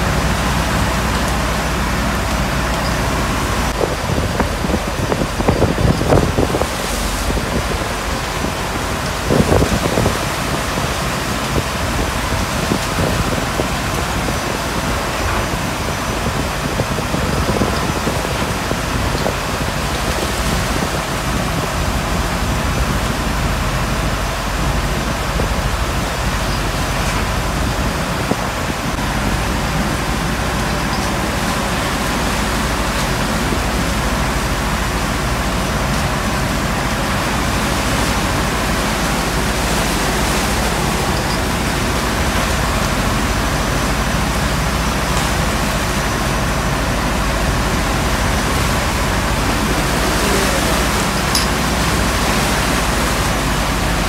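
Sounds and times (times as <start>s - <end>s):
water rushing across steel deck: 0.0s - 54.0s.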